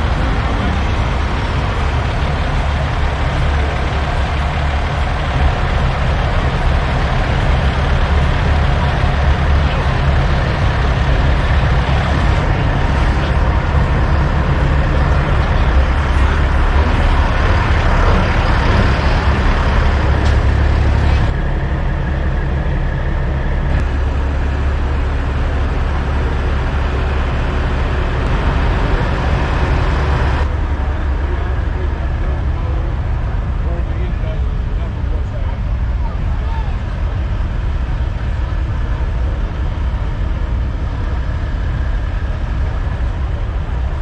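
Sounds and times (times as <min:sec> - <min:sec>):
diesel truck engines idling: 0:00.0 - 0:44.0.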